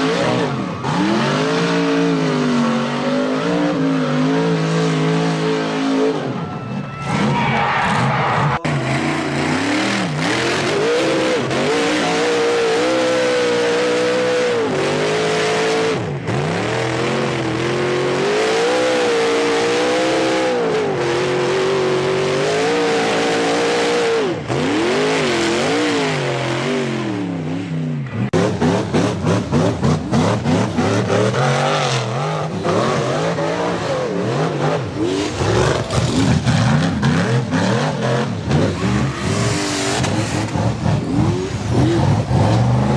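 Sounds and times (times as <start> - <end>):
utility vehicle engine revving: 0.0 - 6.3, 7.1 - 42.9.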